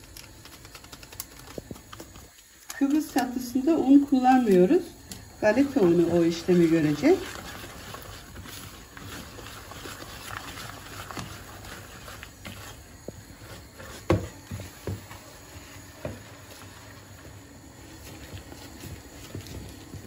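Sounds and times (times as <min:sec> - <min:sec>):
whisk scraping in bowl: 0:03.2 - 0:20.0.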